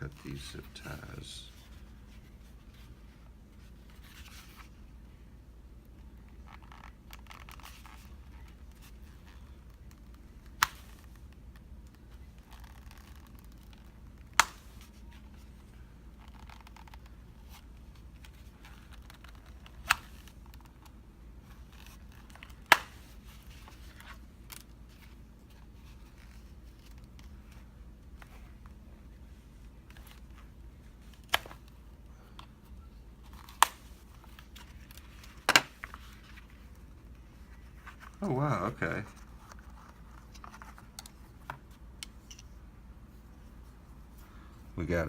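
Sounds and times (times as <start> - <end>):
scraping and rustling of handling: 0.0 - 4.9, 6.2 - 44.4.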